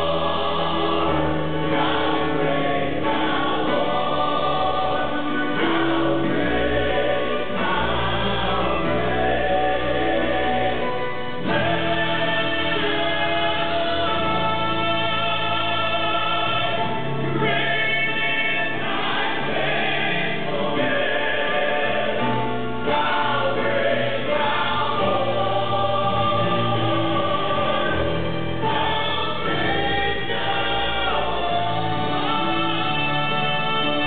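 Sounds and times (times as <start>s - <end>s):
male quartet singing in harmony: 0.0s - 34.0s.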